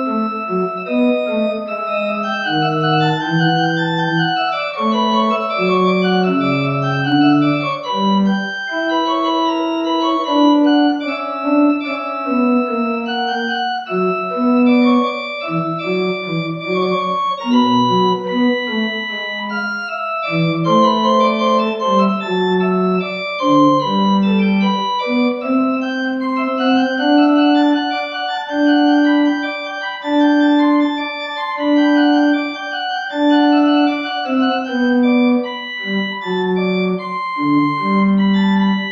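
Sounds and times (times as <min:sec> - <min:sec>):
organ music: 0:00.0 - 0:38.9.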